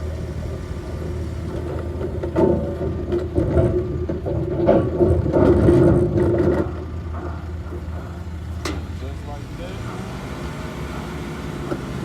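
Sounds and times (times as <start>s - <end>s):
vehicle engine idling: 0.0s - 5.0s, 6.6s - 12.0s
mechanical drone with knocks: 0.4s - 10.5s.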